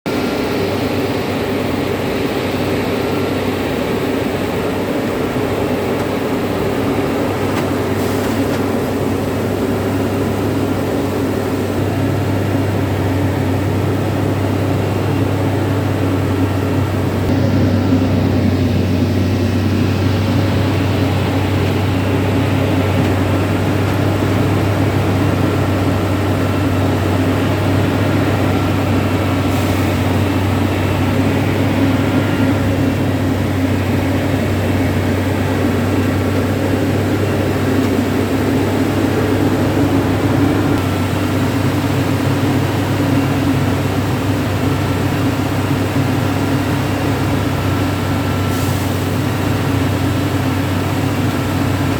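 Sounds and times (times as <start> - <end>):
machine engine drone: 0.1 - 51.9.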